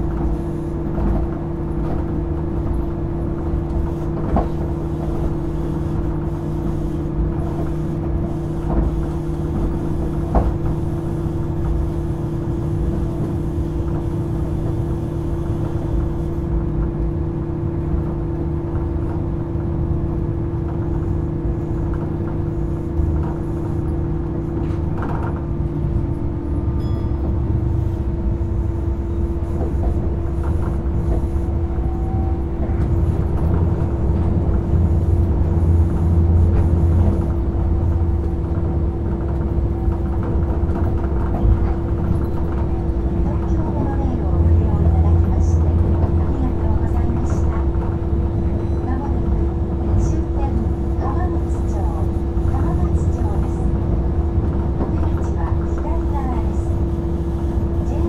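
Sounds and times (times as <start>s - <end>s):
train low rumble: 0.0s - 58.0s.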